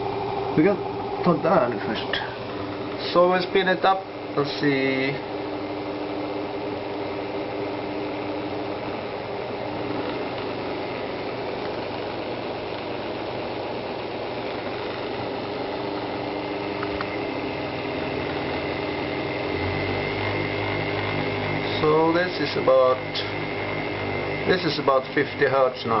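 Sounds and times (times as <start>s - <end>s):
electric pump motor whirring: 0.0s - 26.0s.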